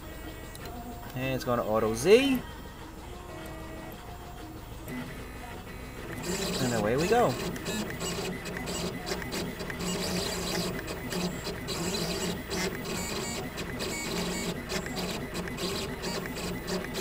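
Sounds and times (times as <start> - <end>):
engraving machine motors whirring: 3.2 - 17.0.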